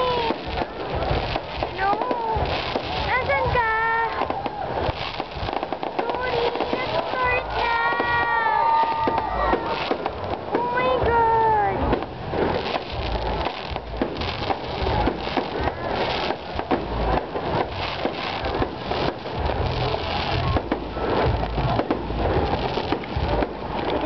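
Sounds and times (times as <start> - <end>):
deep fireworks booms: 0.0 - 24.0
fireworks crackling pops: 0.0 - 24.0.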